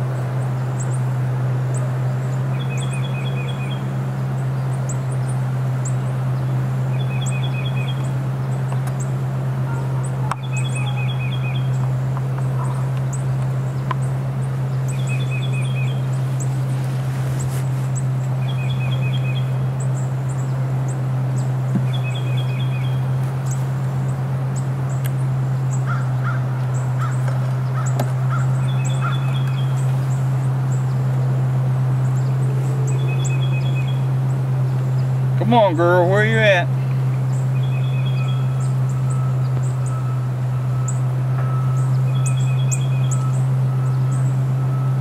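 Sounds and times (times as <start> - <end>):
honeybees buzzing: 0.0 - 45.0
bird trilling: 0.4 - 45.0
high bird chirps: 2.5 - 16.7, 17.3 - 25.0, 25.6 - 31.3, 31.9 - 45.0.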